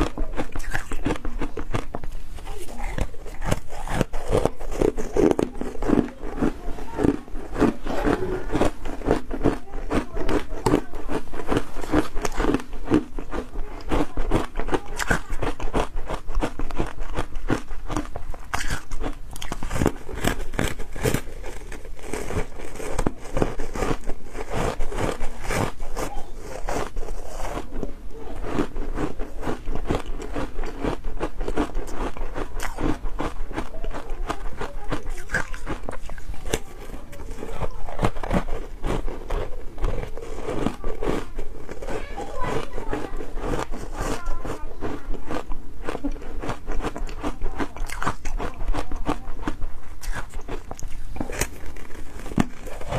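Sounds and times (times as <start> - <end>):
chewing crunchy ice: 0.0 - 52.9.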